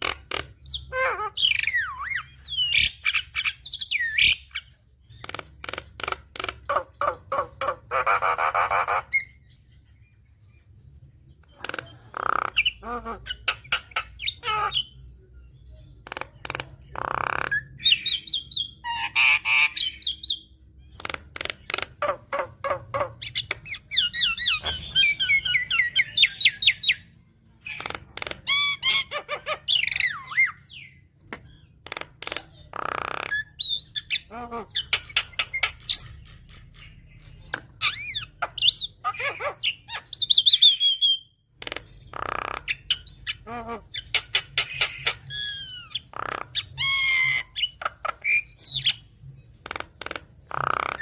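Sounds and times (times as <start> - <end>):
harsh bird squawks: 0.0 - 9.4, 16.0 - 27.0, 27.6 - 49.0.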